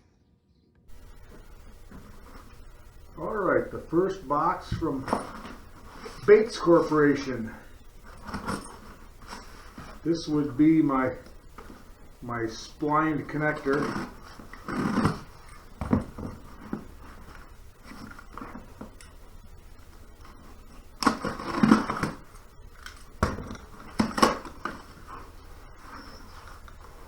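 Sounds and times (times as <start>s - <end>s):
packaging rustling and tearing: 0.9s - 27.0s.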